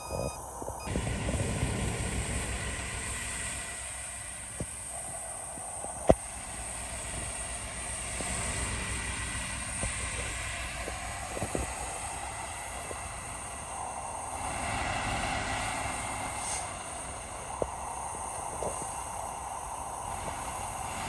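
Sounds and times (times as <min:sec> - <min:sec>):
heavy machinery diesel rumble: 0:00.0 - 0:21.0.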